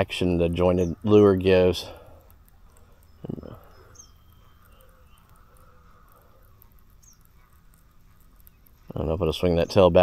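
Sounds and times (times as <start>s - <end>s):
faint high chirps: 0.4s - 10.0s.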